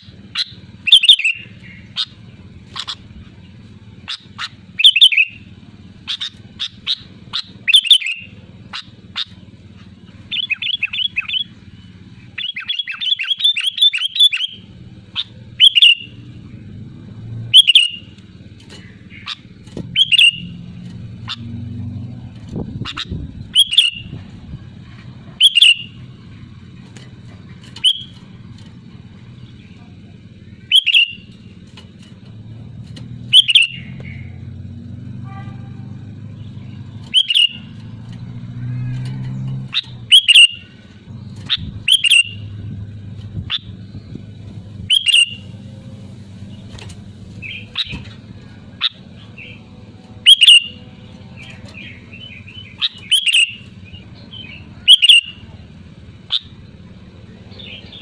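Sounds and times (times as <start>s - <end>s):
bird calling sharp notes: 0.0s - 16.4s, 17.3s - 22.0s, 22.6s - 24.2s, 25.3s - 31.7s, 33.2s - 34.5s, 36.4s - 38.0s, 38.8s - 42.6s, 43.4s - 44.1s, 44.8s - 45.6s, 46.4s - 56.8s.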